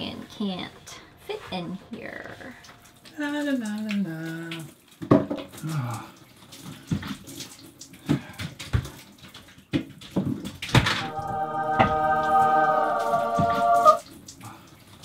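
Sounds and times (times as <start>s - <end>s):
shower water splashing: 2.5s - 15.0s.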